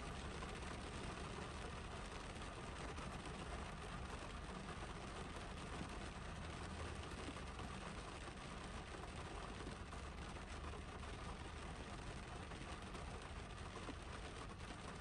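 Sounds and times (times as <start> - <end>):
low steady rumble: 0.0 - 15.0
rain on car roof: 0.0 - 15.0.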